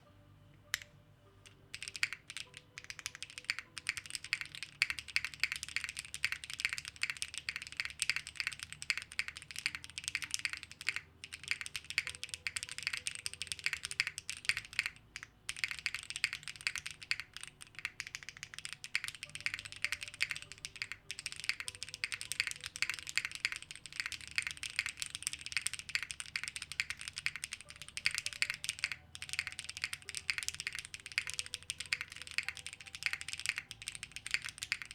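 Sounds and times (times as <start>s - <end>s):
mechanical keyboard typing: 0.7s - 34.9s.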